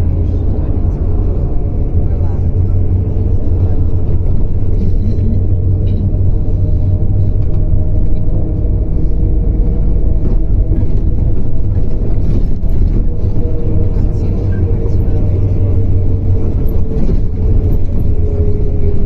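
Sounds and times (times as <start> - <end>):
bus engine low rumble: 0.0 - 19.0
constant hum: 0.0 - 19.0.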